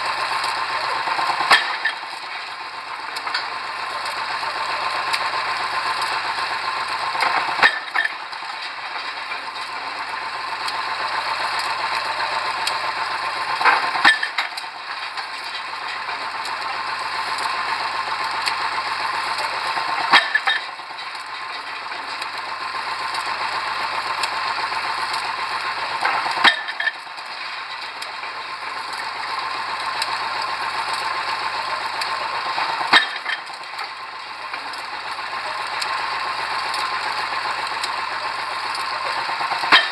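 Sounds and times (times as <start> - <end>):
pile driver engine running: 0.0 - 39.9.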